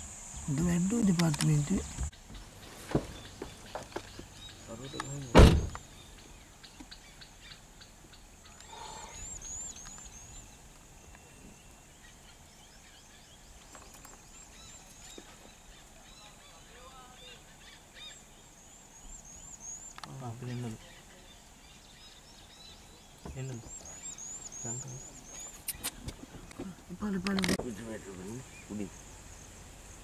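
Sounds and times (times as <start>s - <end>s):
lower bird chirps: 0.0s - 30.0s.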